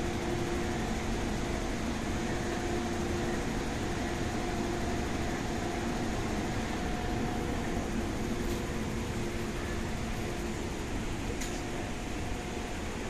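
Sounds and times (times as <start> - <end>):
train carriage hum and rumble: 0.0 - 13.0.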